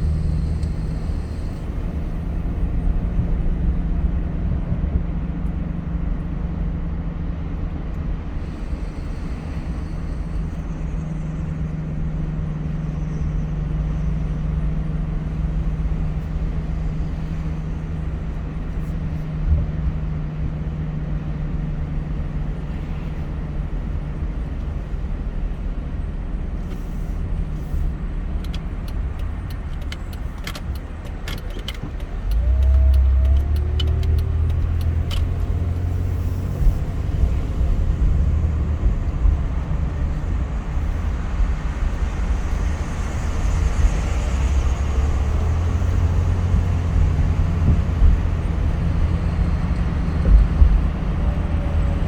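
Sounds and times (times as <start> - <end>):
car engine hum: 0.0 - 52.0
road rumble: 0.0 - 52.0.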